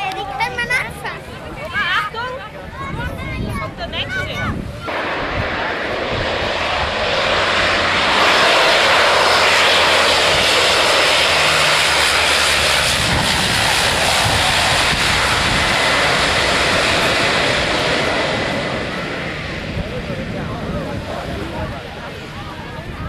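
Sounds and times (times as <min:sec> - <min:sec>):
propeller plane engines overhead: 0:00.0 - 0:23.0.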